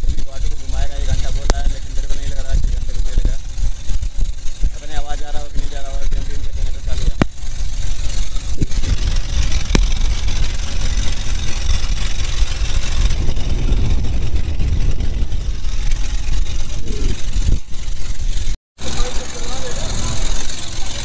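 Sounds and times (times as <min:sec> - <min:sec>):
motorboat engine rumbling: 0:00.0 - 0:21.0.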